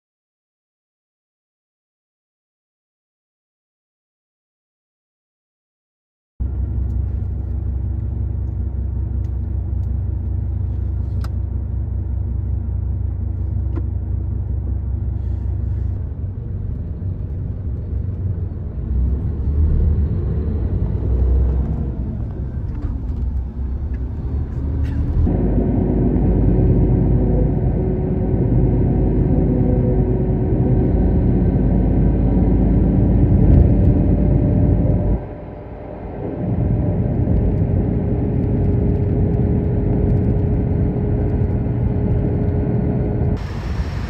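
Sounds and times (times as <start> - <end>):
large vehicle engine rumbling: 6.4 - 44.0.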